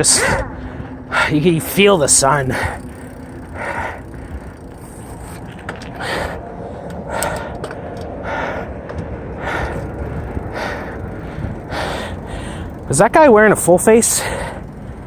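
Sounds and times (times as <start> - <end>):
cyclist breathing hard: 0.0 - 12.9, 14.0 - 15.0
wind and tyre rumble: 0.0 - 15.0.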